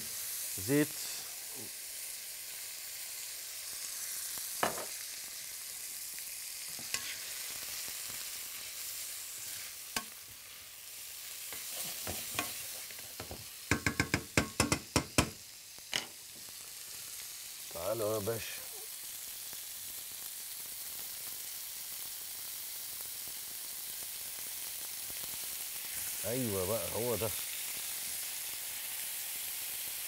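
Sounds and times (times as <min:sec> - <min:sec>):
oil sizzling in a pan: 0:00.0 - 0:30.0.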